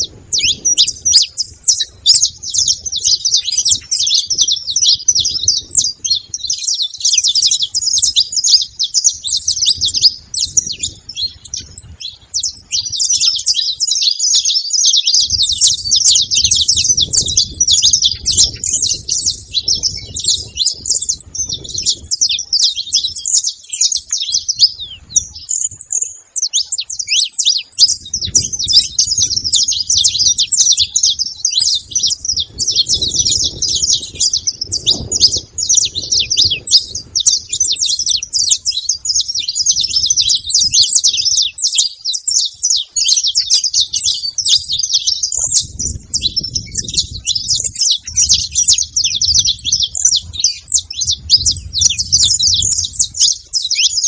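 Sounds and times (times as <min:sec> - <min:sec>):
finches chirping: 0:00.0 - 0:54.0.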